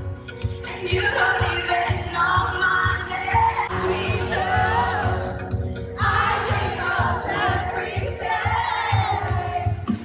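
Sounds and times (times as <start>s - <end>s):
woman singing into microphone: 0.5s - 10.0s
crowd singing along: 0.6s - 10.0s.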